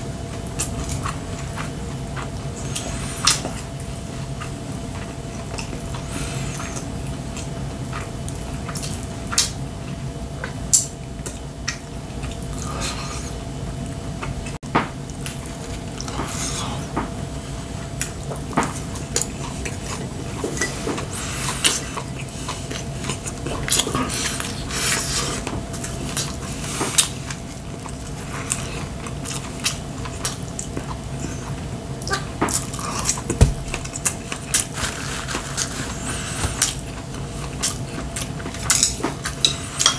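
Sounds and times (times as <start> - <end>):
steady low hum: 0.0 - 39.9
man chewing: 0.1 - 39.9.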